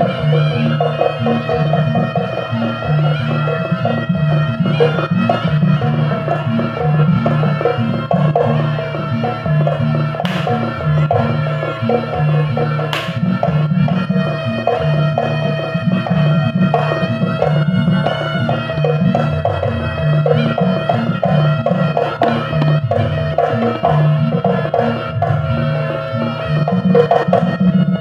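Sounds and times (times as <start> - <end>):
hand drums steady rhythm: 0.0 - 28.0.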